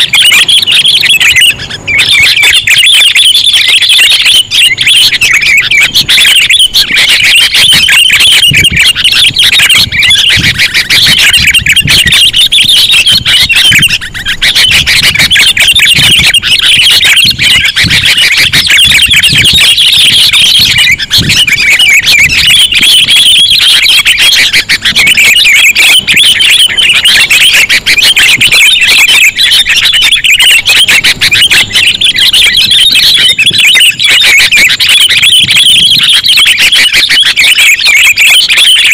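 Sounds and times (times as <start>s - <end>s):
bulbuls chattering calls: 0.0s - 38.9s.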